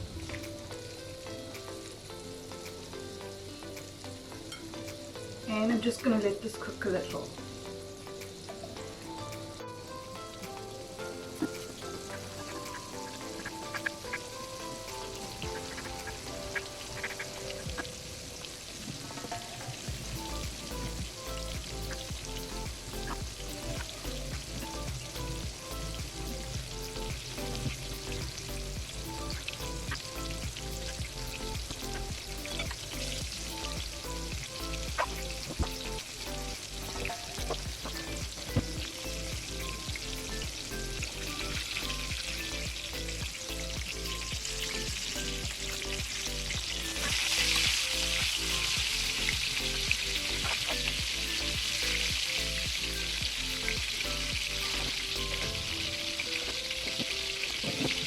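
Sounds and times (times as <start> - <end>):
chicken sizzling in oil: 0.0 - 58.0
oil popping: 9.2 - 58.0.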